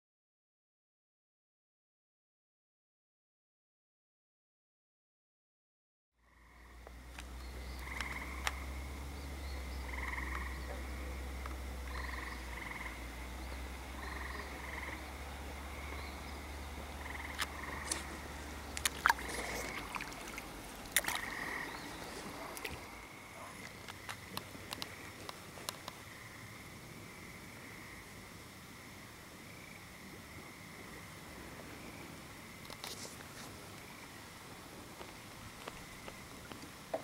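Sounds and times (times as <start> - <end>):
frogs calling: 6.2 - 33.1, 33.8 - 37.0.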